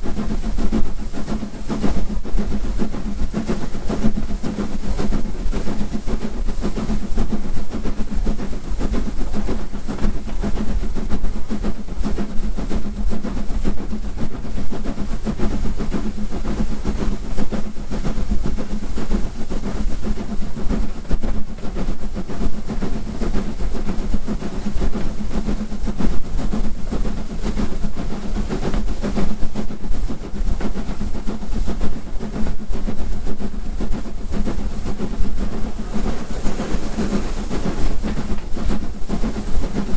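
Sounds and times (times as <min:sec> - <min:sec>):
train wheels on rails: 0:00.1 - 0:39.9.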